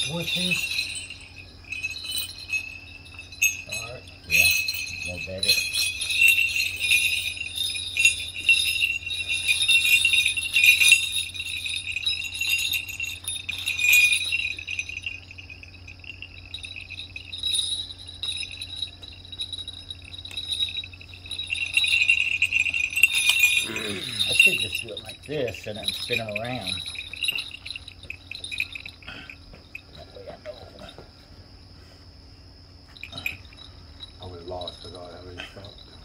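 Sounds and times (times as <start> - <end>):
brass leg bells jingling: 0.0 - 36.0.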